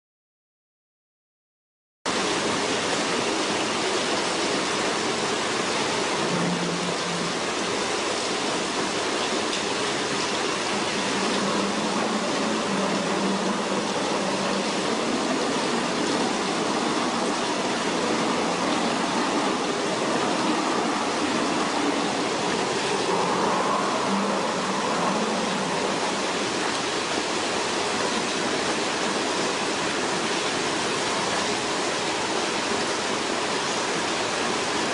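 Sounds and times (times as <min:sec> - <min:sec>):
water rushing in a tank: 0:02.1 - 0:34.9.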